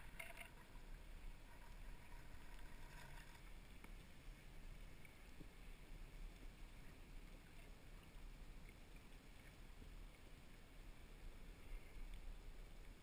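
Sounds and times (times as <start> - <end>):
faint underwater clicks: 0.0 - 13.0
underwater rumble and hiss: 0.0 - 13.0.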